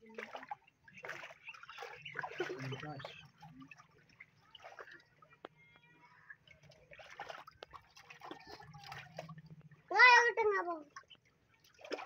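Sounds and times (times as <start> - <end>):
hands splashing shallow water: 0.0 - 5.7, 6.4 - 9.9, 10.9 - 12.0
small drips and clicks: 0.0 - 12.0.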